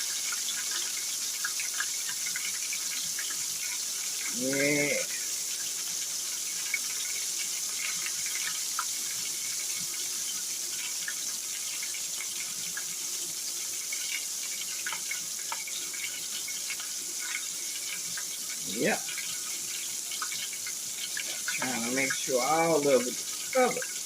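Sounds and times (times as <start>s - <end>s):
liver frying in hot oil: 0.0s - 24.0s
oil popping and crackling: 0.0s - 24.0s.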